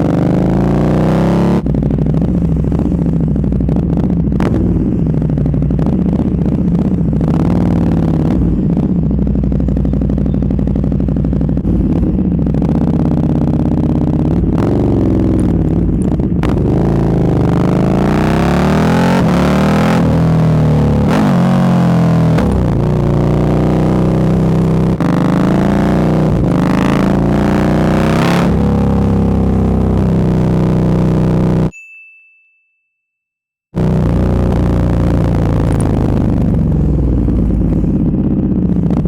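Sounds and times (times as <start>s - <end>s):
motorcycle engine revving: 0.0s - 31.7s, 33.8s - 39.0s.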